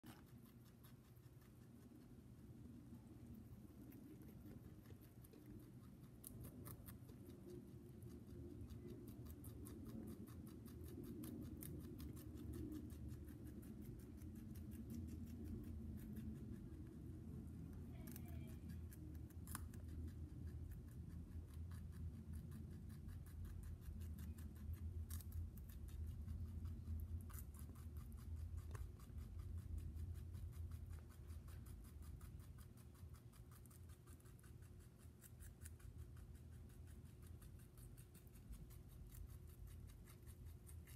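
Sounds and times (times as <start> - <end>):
rabbit chewing greens: 0.0 - 40.9.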